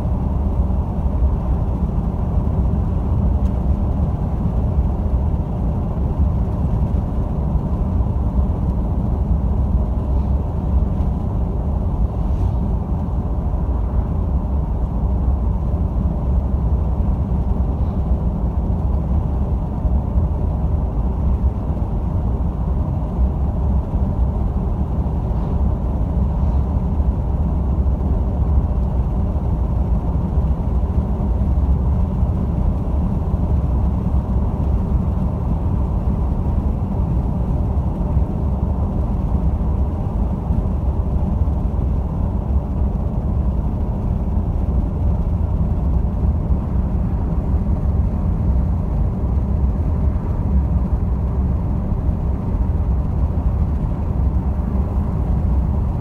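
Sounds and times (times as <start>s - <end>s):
vehicle engine and tyre noise: 0.0s - 56.0s.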